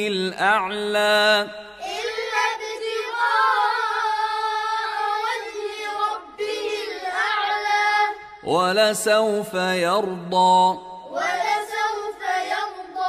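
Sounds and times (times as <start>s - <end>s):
high voice chanting melodically: 0.0s - 13.0s.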